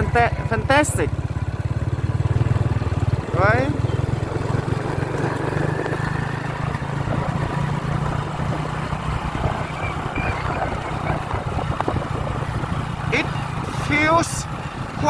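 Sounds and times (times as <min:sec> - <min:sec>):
motorbike engine running: 0:00.0 - 0:15.0
road and wind noise: 0:00.0 - 0:15.0.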